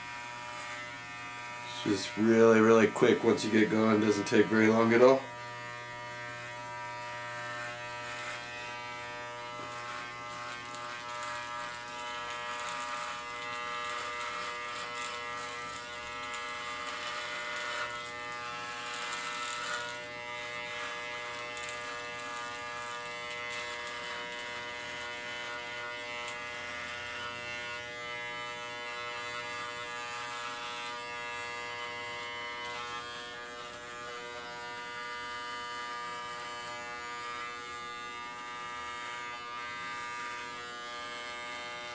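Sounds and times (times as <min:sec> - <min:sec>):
electric clippers buzzing: 0:00.0 - 0:41.9.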